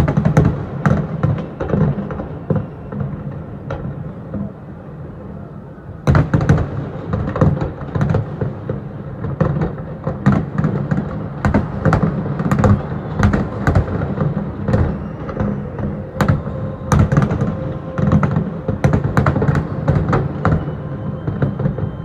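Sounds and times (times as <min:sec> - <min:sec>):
fireworks bangs and pops: 0:00.0 - 0:04.5, 0:06.1 - 0:22.0.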